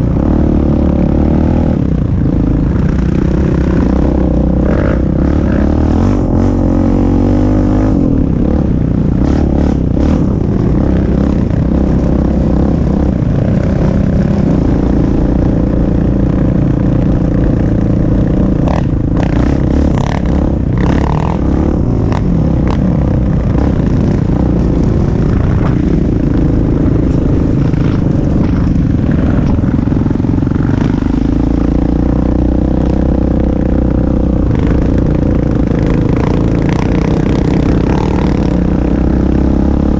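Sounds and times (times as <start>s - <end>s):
quad engine revving: 0.0s - 1.8s, 2.4s - 39.9s.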